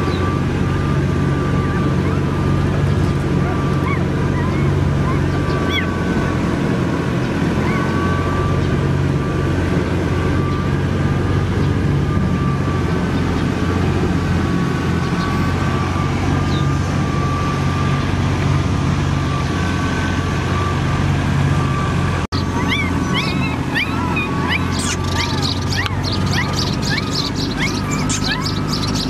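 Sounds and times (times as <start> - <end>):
motor humming: 0.0 - 29.0.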